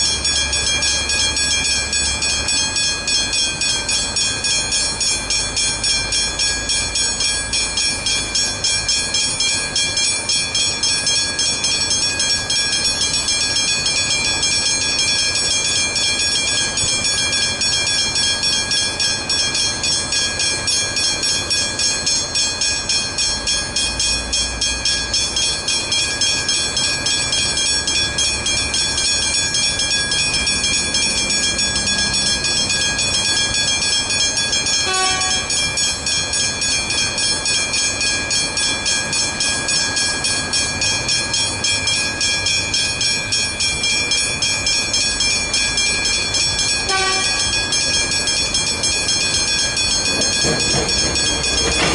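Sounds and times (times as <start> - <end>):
level crossing bells ringing: 0.0 - 51.9
low rumble of rail traffic: 0.0 - 51.9.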